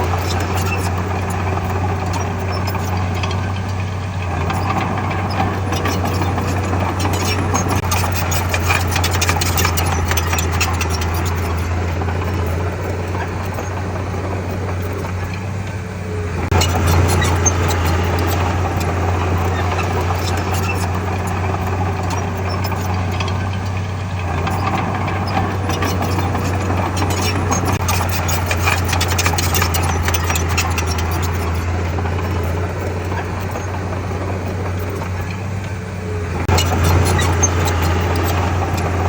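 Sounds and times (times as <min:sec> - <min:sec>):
heavy diesel engine running: 0:00.0 - 0:39.0
rapid clicking and rattling: 0:00.0 - 0:39.0.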